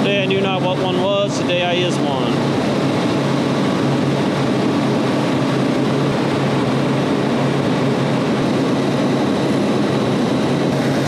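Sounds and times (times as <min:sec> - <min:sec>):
refrigeration machinery hum: 0:00.0 - 0:11.0.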